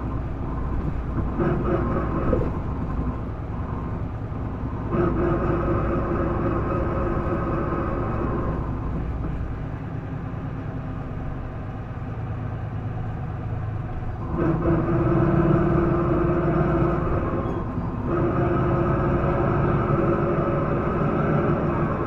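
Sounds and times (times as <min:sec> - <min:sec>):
bus engine: 0:00.0 - 0:22.0.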